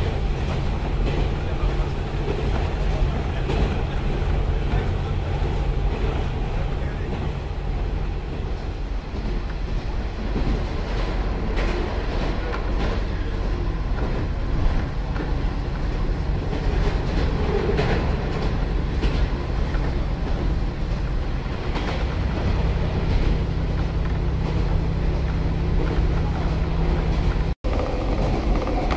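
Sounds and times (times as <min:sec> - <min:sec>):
diesel engine drone: 0:00.0 - 0:28.9
train wheels clacking over rails: 0:00.0 - 0:28.9.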